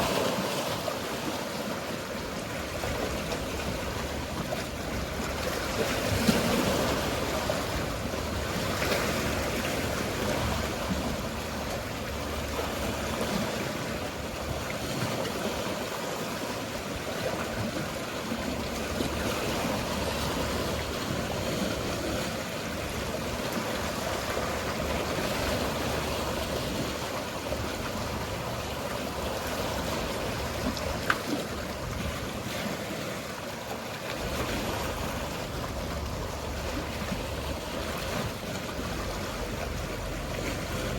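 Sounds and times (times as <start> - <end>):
sea water washing and lapping: 0.0 - 40.9.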